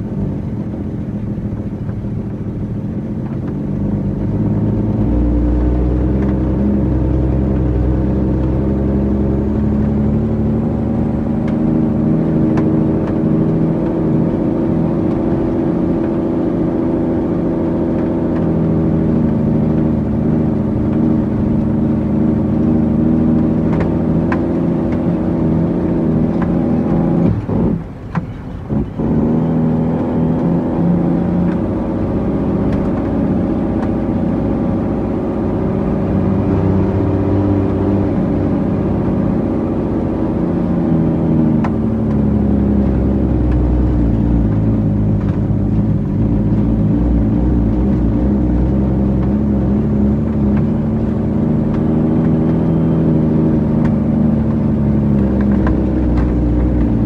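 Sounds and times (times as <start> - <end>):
heavy diesel truck engine droning: 0.0 - 57.0.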